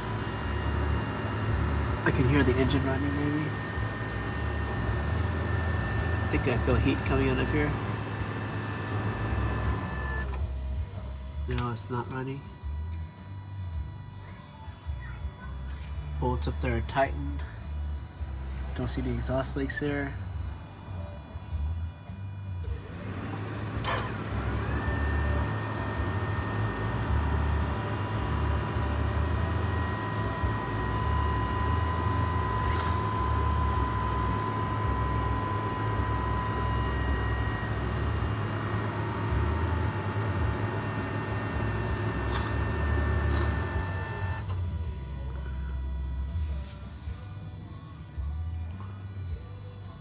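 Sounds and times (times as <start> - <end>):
car engine running: 0.0 - 12.3, 15.7 - 47.3.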